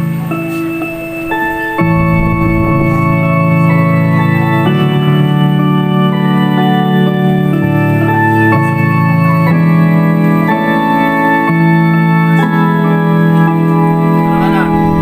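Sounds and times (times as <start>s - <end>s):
organ playing sustained chords: 0.0s - 15.0s.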